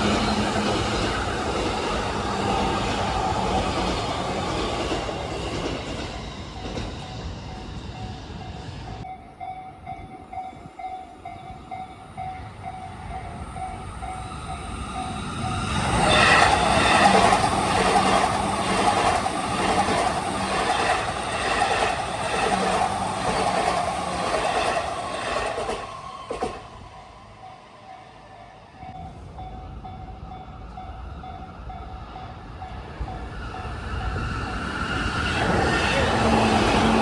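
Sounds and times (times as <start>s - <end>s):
electric train rumbling past: 0.0s - 37.0s.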